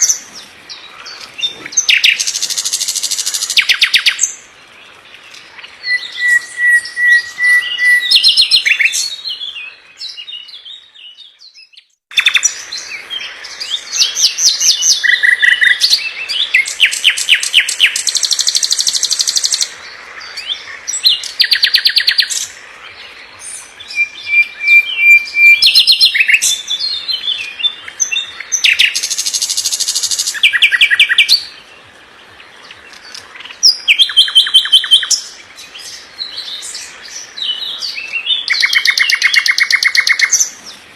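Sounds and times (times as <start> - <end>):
bird song trills and whistles: 0.0 - 40.9.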